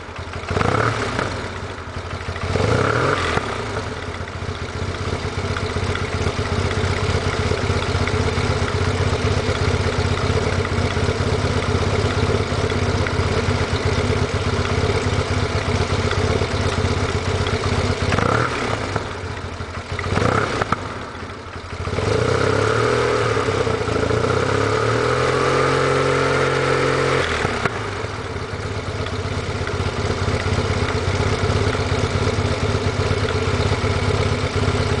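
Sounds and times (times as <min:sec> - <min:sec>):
scooter engine idling and revving: 0:00.0 - 0:35.0.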